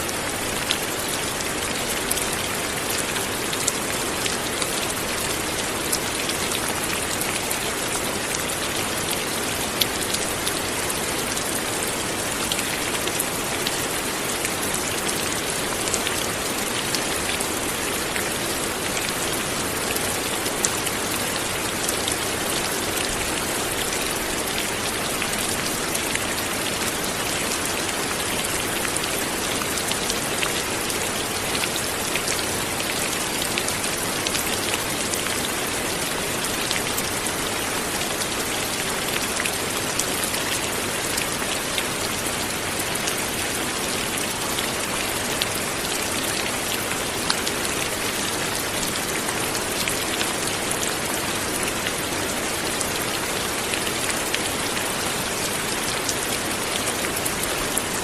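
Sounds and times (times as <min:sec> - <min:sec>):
light rain patter: 0:00.0 - 0:58.0.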